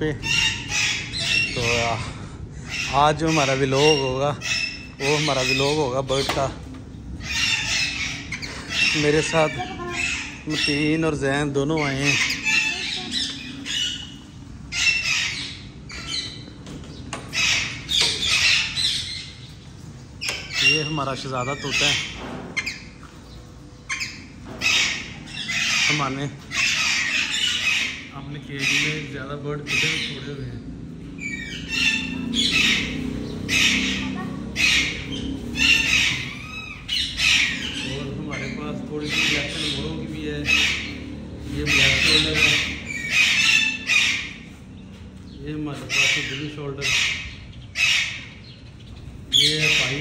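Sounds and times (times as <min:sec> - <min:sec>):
parakeets squawking: 0:00.0 - 0:50.0.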